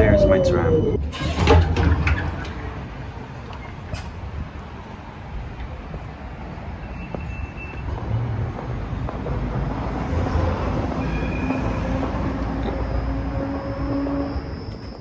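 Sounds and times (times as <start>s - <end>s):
tram rail rumble: 0.0s - 15.0s.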